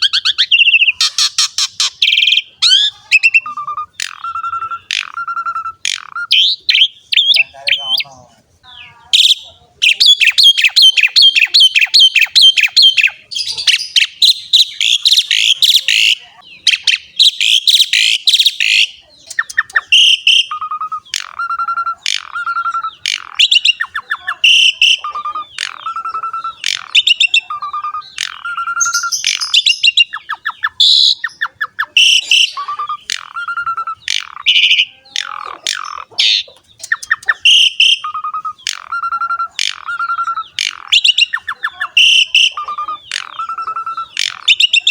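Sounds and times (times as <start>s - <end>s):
starling singing: 0.0s - 44.9s.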